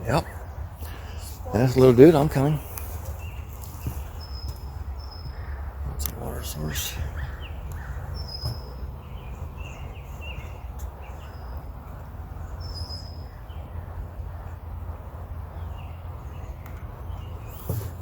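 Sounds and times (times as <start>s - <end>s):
steady low rumble: 0.0s - 17.5s
wild birds chirping: 0.0s - 18.0s.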